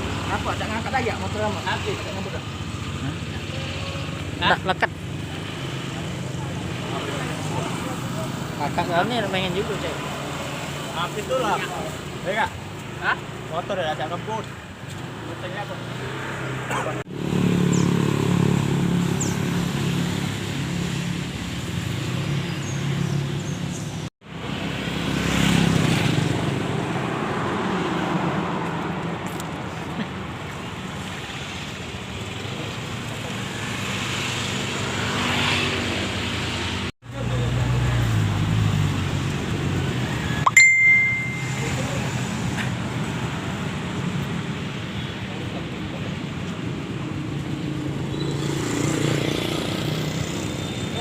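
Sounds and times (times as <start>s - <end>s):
road noise rushing: 0.0s - 51.0s.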